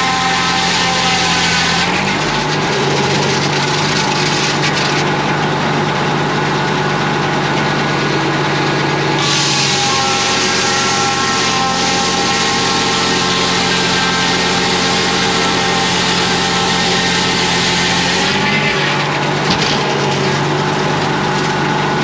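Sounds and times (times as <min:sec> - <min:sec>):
circular saw blade ripping log: 0:00.0 - 0:05.3, 0:09.2 - 0:21.8
engine running steadily: 0:00.0 - 0:22.0.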